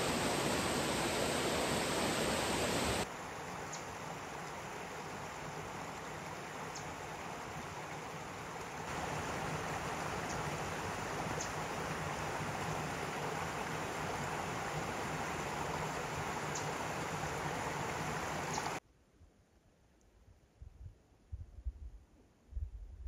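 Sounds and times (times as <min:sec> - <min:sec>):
creek water flowing: 0:00.0 - 0:18.8.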